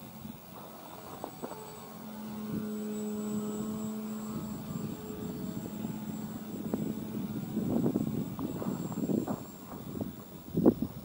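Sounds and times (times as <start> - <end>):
model plane motor humming: 0.0 - 11.0.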